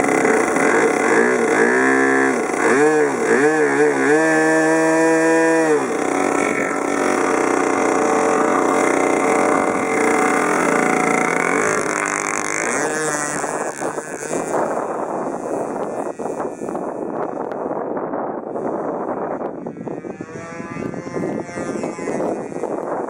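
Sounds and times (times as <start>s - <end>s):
gusty wind on microphone: 0.0s - 23.0s
model airplane motor whine: 0.0s - 23.0s.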